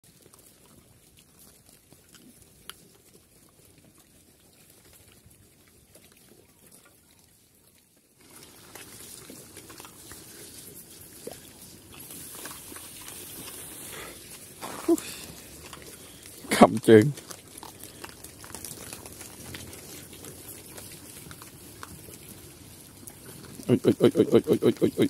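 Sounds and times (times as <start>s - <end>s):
piglets rooting in dry dirt: 0.0s - 25.0s
faint pig sounds: 0.1s - 25.0s.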